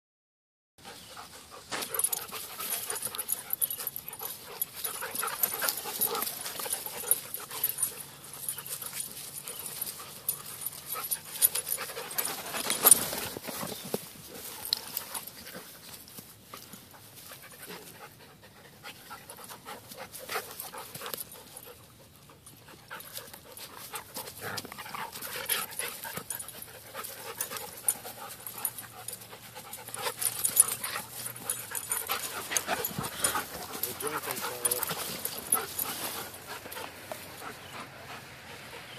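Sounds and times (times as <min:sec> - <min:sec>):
dogs panting: 0:00.8 - 0:38.9
dogs scuffling: 0:01.5 - 0:18.0, 0:22.5 - 0:37.8.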